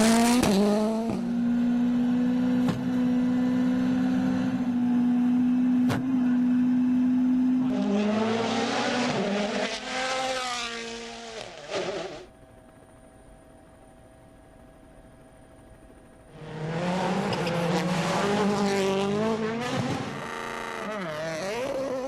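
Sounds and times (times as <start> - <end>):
rally car engine revving: 0.0 - 12.3, 16.4 - 22.0.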